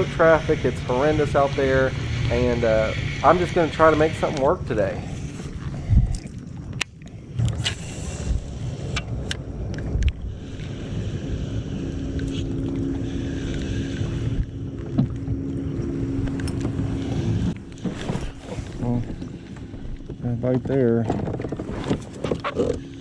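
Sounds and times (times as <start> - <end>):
steady hum: 0.0 - 23.0
wind and water rumble: 0.0 - 23.0.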